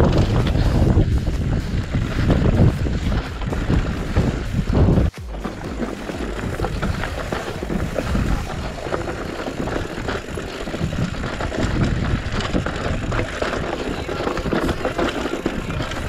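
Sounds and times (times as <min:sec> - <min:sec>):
bike rattling and knocking: 0:00.0 - 0:16.0
bike tyres over loose rock: 0:00.0 - 0:16.0.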